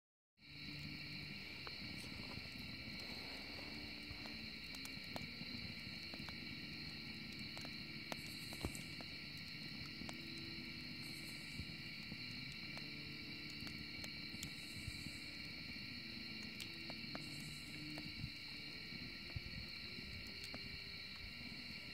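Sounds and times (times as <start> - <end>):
night insects chorus: 0.4 - 21.9
wood fire crackling and popping: 0.4 - 21.9.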